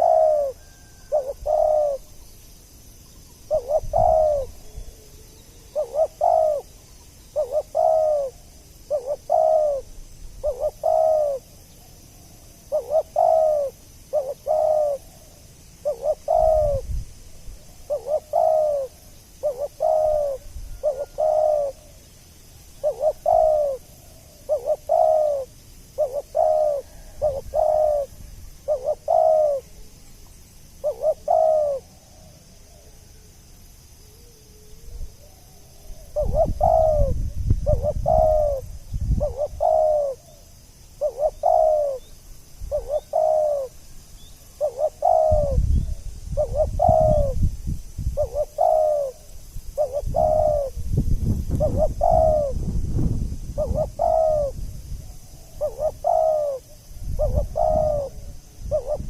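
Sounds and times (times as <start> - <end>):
dove cooing: 0.0 - 2.3, 3.1 - 17.0, 17.6 - 33.3, 34.0 - 47.5, 48.1 - 59.0.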